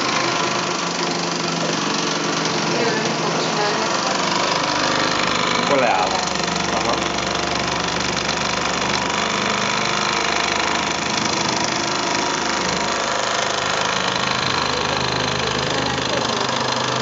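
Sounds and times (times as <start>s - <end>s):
rotary tool running: 0.0s - 17.0s
toy steam engine flywheel spinning: 0.0s - 17.0s.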